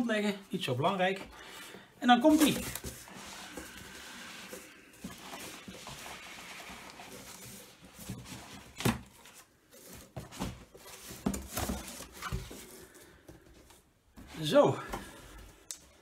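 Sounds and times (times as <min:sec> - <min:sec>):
cardboard flaps and tape rustling: 0:02.1 - 0:15.4.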